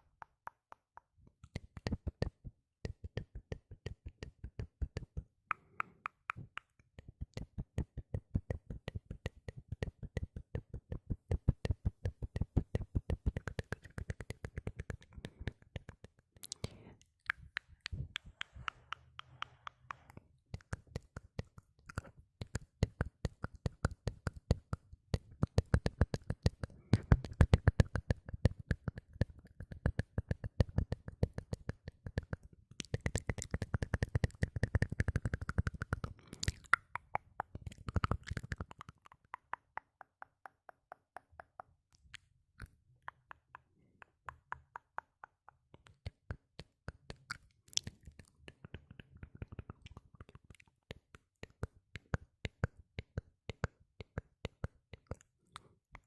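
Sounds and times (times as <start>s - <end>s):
tongue and lip clicks: 0.0s - 56.0s.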